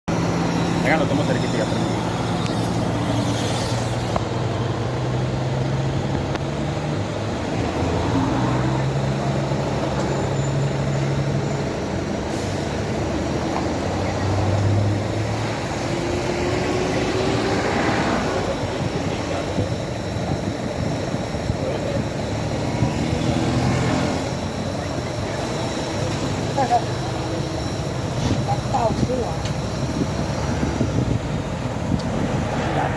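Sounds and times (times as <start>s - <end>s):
traffic engine hum: 0.0s - 32.9s.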